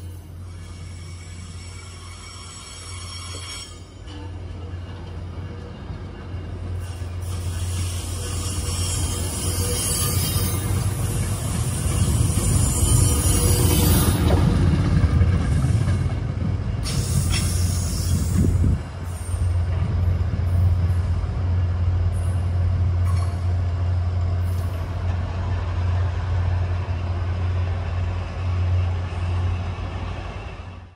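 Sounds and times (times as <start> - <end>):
train rumbling by: 0.0 - 30.9.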